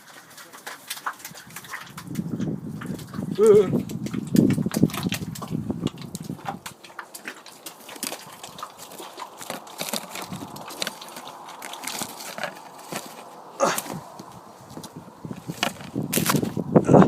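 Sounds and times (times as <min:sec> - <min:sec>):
footsteps on wet mud: 0:00.0 - 0:17.0.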